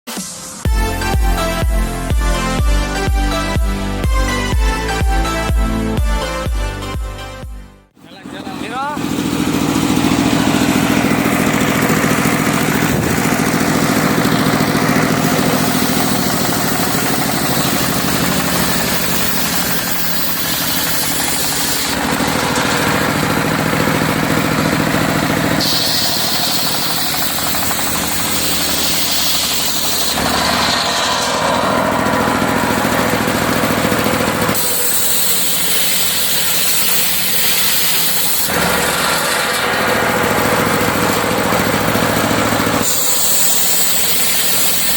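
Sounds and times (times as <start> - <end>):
sawmill engine running: 0.1 - 7.0, 8.0 - 44.9
saw blade cutting wood: 8.0 - 44.9.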